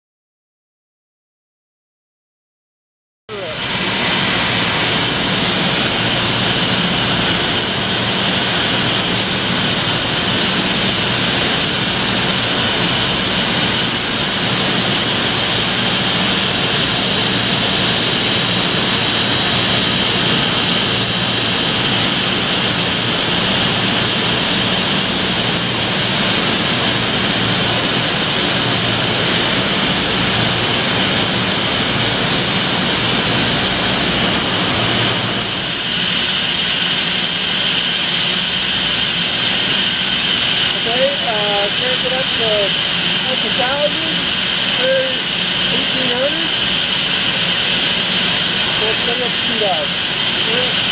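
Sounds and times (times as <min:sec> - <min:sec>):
machine whirring with high whine: 0:03.3 - 0:50.9.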